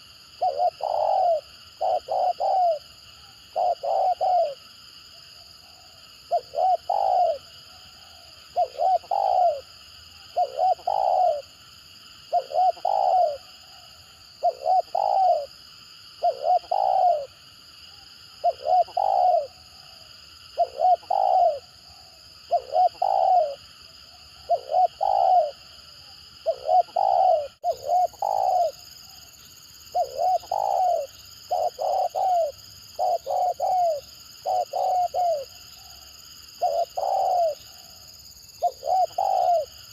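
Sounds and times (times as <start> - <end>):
dove cooing: 0.0 - 4.7, 5.6 - 11.5, 12.3 - 15.5, 16.2 - 17.4, 18.4 - 20.0, 20.6 - 23.6, 24.4 - 39.9.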